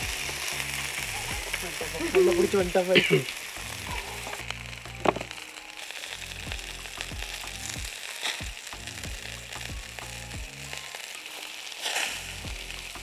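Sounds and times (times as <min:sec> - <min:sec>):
butter flaring on hot coals: 0:00.0 - 0:13.0
chicken sizzling on a grill: 0:00.0 - 0:13.0.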